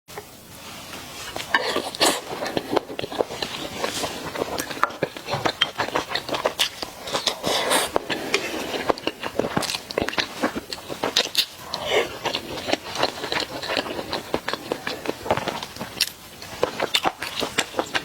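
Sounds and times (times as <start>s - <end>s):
crunchy bites and chewing: 1.5s - 18.0s.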